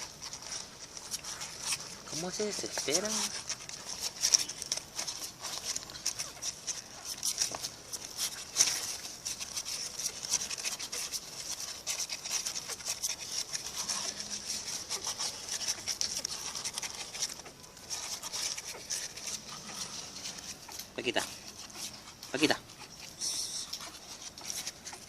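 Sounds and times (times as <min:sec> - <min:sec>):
puppies suckling wet smacking: 0:00.0 - 0:25.0.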